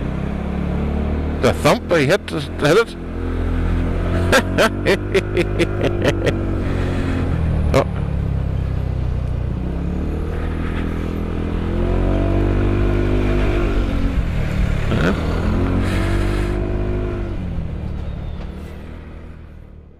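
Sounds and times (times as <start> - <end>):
road noise: 0.0 - 19.9
vehicle engine accelerating: 0.0 - 19.9.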